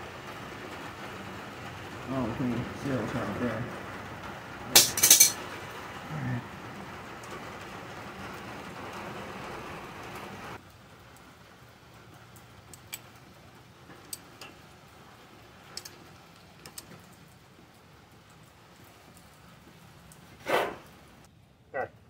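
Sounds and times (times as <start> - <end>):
steady hissing noise: 0.0 - 22.0.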